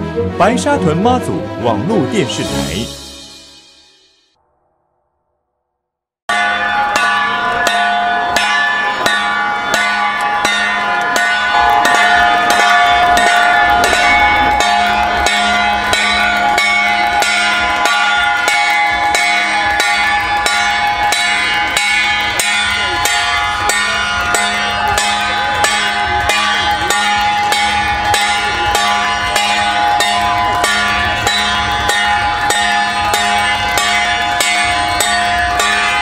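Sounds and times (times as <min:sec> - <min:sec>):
metal gong struck in steady beat: 0:06.3 - 0:36.0.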